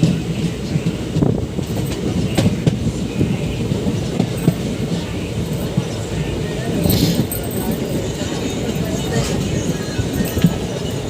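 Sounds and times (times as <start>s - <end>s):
sharp clicks of train: 0.0s - 11.0s
train wheels rumbling: 0.0s - 11.0s.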